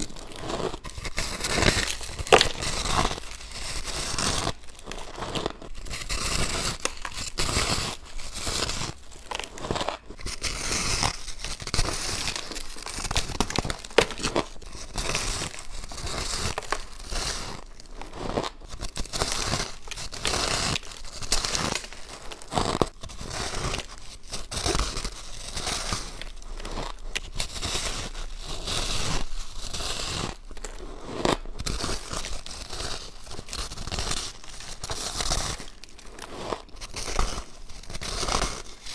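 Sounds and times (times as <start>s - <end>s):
biting into shaved ice crunching: 0.0s - 38.9s.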